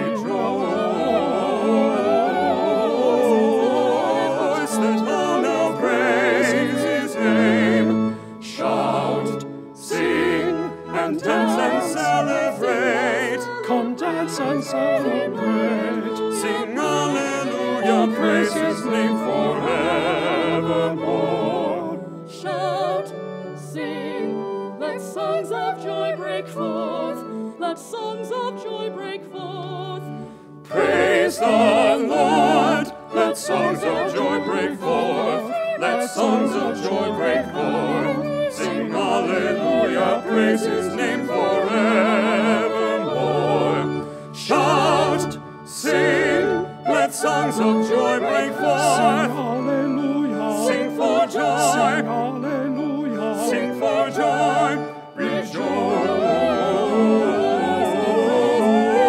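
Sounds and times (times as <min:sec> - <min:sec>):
vocal ensemble singing a hymn: 0:00.0 - 0:59.0.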